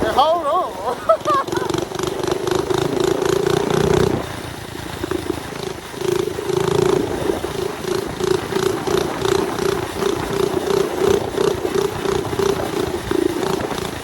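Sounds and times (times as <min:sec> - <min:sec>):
small bike engine running: 0:00.0 - 0:14.0.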